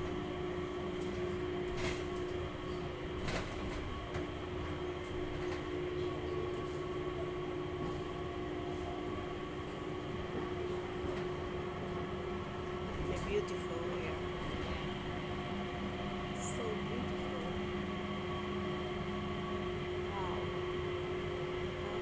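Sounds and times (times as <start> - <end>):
train car rumble: 0.0 - 22.0.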